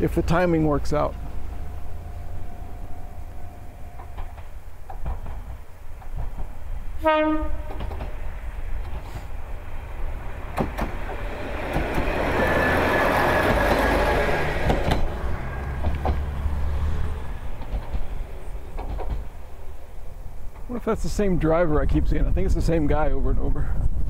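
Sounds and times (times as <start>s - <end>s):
diesel train engine drone: 0.0s - 22.4s
wheels rumbling on rail: 0.0s - 24.0s.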